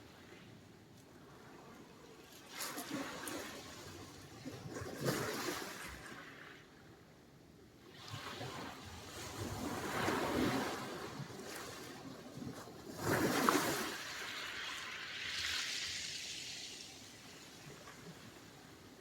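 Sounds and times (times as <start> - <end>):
sea waves breaking on shore: 1.3 - 6.7, 7.9 - 19.0.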